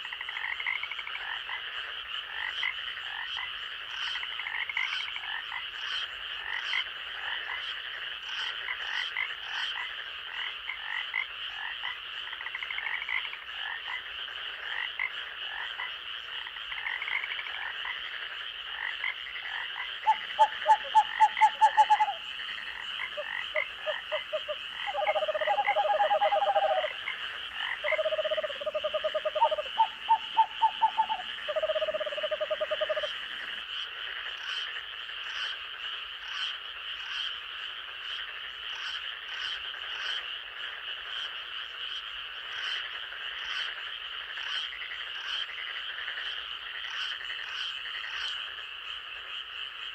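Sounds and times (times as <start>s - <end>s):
frogs croaking: 0.0s - 49.9s
frogs trilling drone: 0.0s - 49.9s.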